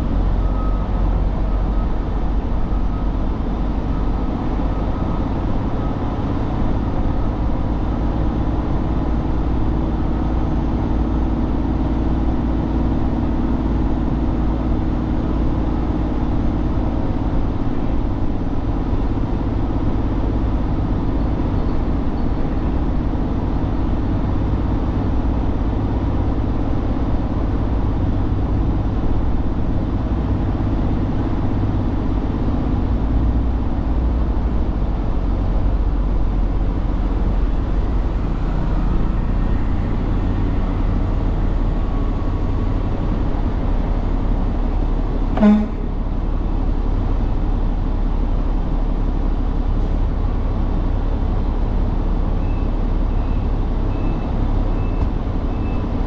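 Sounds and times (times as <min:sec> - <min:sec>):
road noise: 0:00.0 - 0:56.0
truck engine humming: 0:00.0 - 0:56.0.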